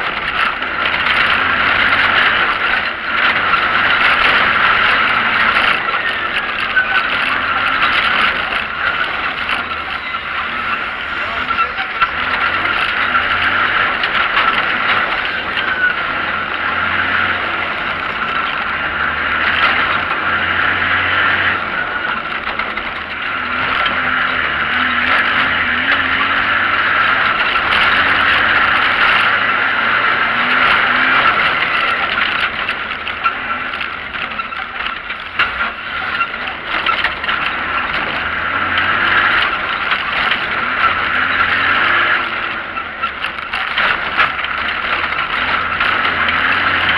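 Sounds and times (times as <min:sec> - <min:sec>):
off-road driving noise: 0:00.0 - 0:46.9
vehicle engine revving: 0:00.0 - 0:46.9.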